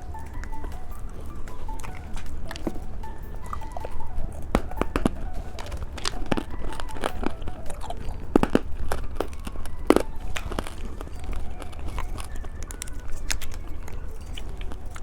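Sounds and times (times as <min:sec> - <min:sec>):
candy crunching: 0:00.0 - 0:15.0.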